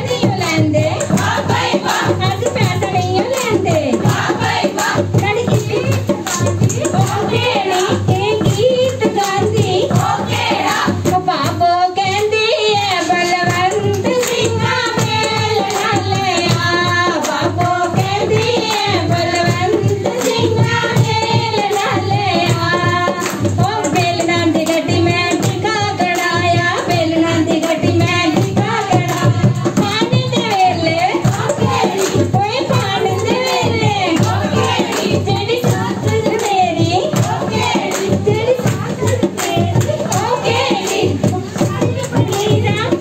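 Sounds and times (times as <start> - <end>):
steady quick beat: 0.0 - 11.6, 13.2 - 43.0
women singing folk melody: 0.0 - 43.0.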